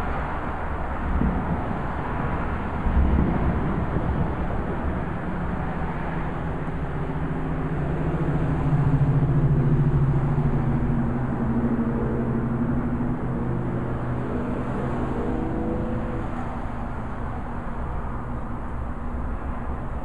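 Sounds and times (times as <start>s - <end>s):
distant traffic rumble: 0.0s - 20.0s
vehicle engine hum: 0.0s - 20.0s.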